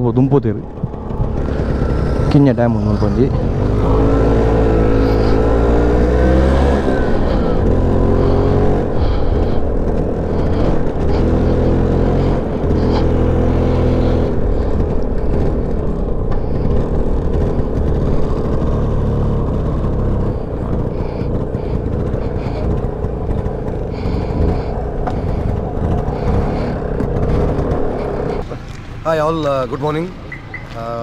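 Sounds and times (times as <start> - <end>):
two-stroke scooter engine revving: 0.0 - 31.0.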